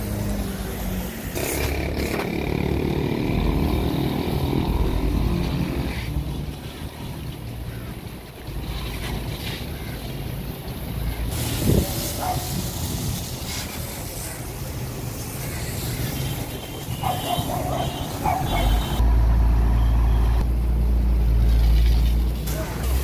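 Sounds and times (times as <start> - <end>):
hose water jet spraying: 0.0 - 19.0, 21.1 - 23.0.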